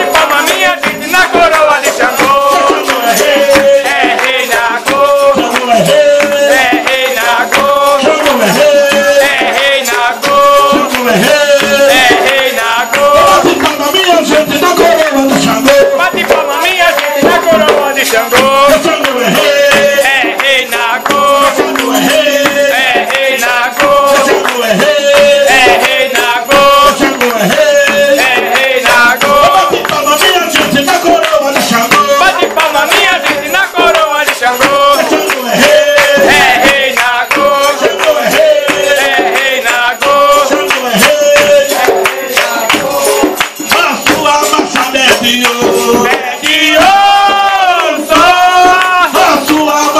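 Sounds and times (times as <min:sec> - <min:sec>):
percussion beat: 0:00.0 - 0:49.9
voices singing a chant: 0:00.0 - 0:49.9.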